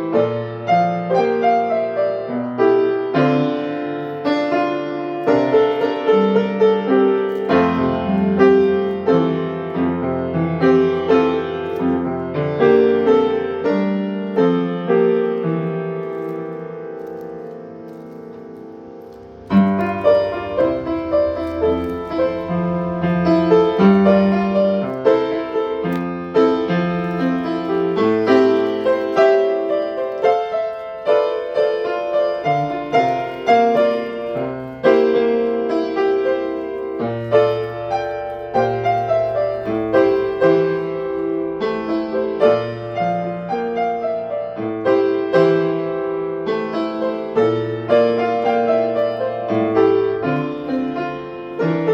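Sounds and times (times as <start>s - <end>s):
piano playing: 0.0s - 51.9s.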